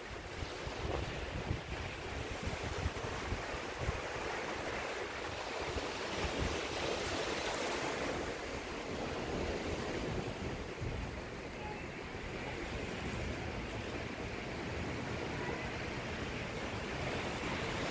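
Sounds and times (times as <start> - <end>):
waves breaking on beach: 0.0 - 17.9
wind buffeting microphone: 0.0 - 17.9.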